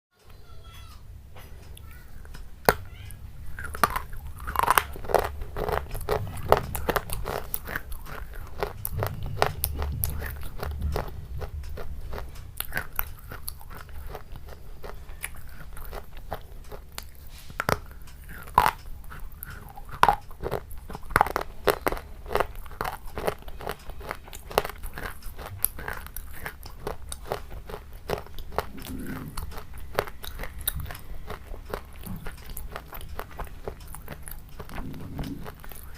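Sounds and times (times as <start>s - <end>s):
person chewing crunchy food: 1.7s - 35.9s.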